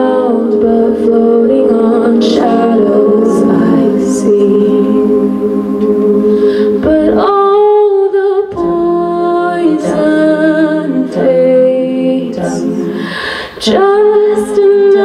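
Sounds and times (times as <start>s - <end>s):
a cappella group singing chords: 0.0s - 15.0s.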